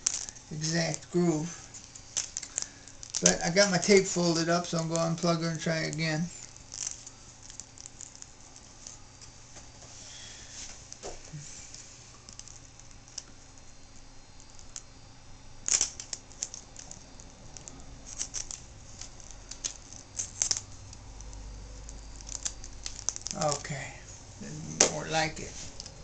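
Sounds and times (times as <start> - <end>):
scratching with small tool: 0.0 - 24.8.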